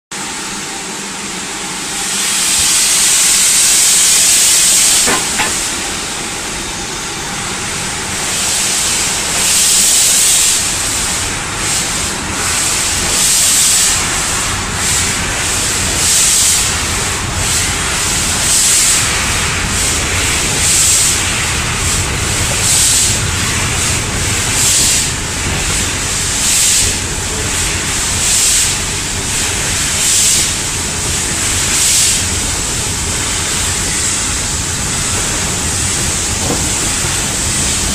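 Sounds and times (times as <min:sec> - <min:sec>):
steam locomotive chuffing: 0:00.1 - 0:37.9
train wheels rumbling on rails: 0:00.1 - 0:37.9
steam hissing: 0:00.2 - 0:37.9.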